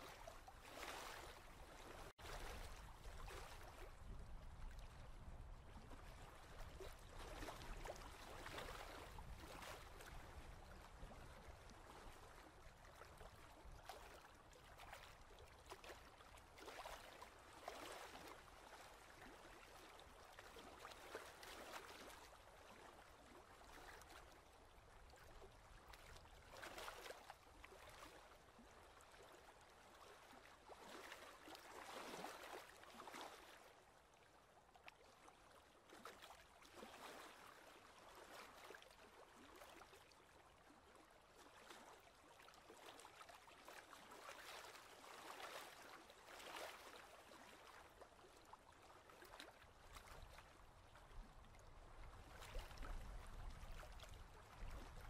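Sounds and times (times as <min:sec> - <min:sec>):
small waves lapping on rocks: 0:00.0 - 0:34.0, 0:34.7 - 0:55.0.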